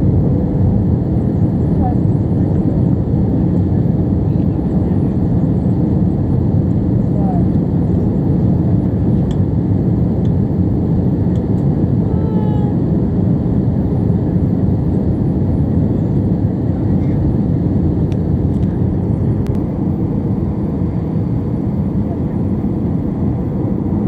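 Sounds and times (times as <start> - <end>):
aircraft cabin drone: 0.0 - 24.0.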